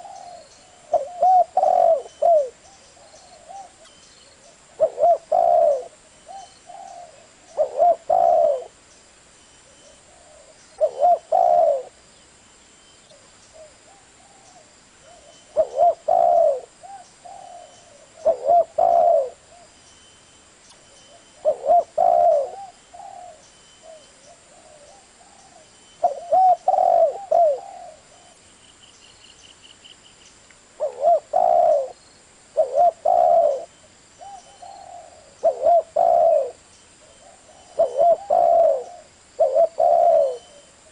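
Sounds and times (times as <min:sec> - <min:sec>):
dove cooing: 0:00.0 - 0:08.8, 0:09.6 - 0:12.0, 0:13.1 - 0:19.7, 0:21.1 - 0:28.4, 0:30.8 - 0:32.0, 0:32.6 - 0:40.9.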